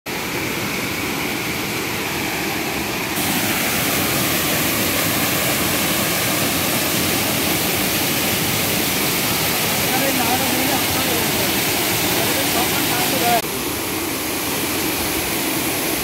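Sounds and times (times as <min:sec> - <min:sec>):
waterfall rushing over rock: 0:00.1 - 0:16.0.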